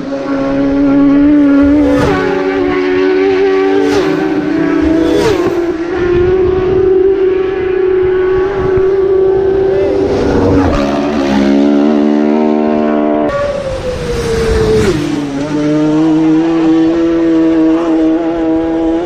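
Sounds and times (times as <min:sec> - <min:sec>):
racing motorbikes passing: 0:00.0 - 0:19.0.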